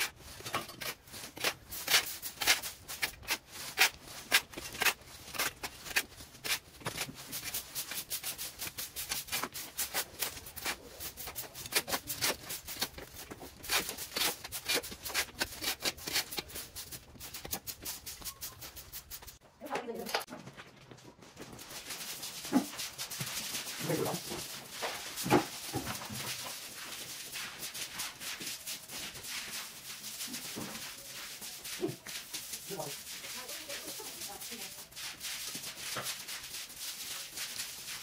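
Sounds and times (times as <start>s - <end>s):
brush scrubbing rough surface: 0.0s - 19.4s, 21.5s - 38.0s.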